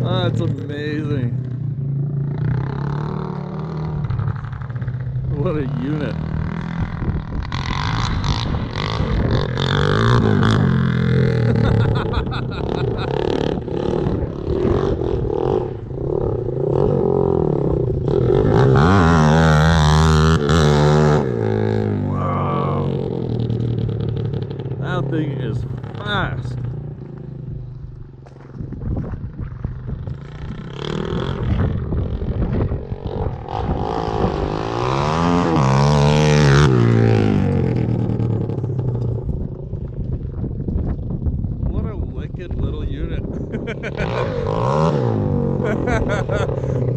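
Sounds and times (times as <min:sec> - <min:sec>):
atv engine rumbling and revving: 0:00.0 - 0:46.9.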